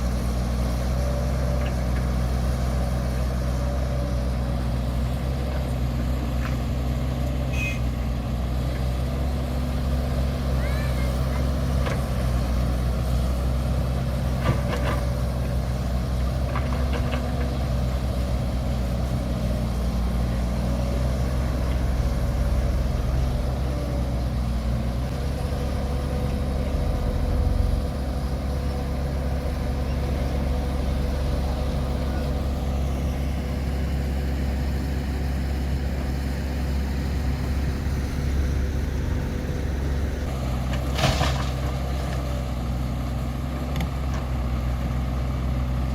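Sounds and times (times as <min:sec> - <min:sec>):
heavy machinery diesel engine running: 0:00.0 - 0:45.9.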